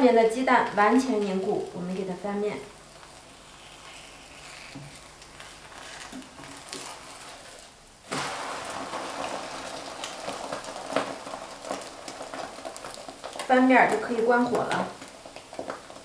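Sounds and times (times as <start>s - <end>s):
pancake sizzling in oil: 0.4s - 16.0s.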